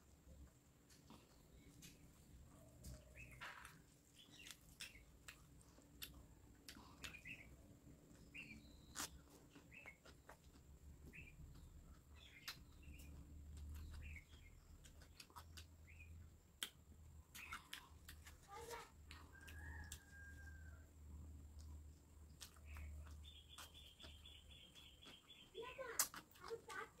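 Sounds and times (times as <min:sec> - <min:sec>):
wet chewing of food: 0:00.0 - 0:27.0.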